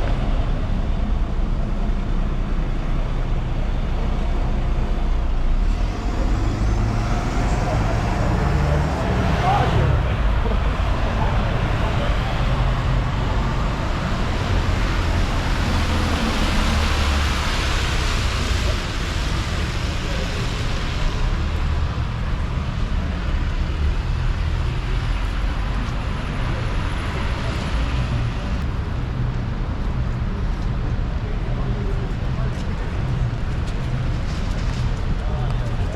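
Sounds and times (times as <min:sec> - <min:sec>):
passing cars and buses: 0:00.0 - 0:35.9.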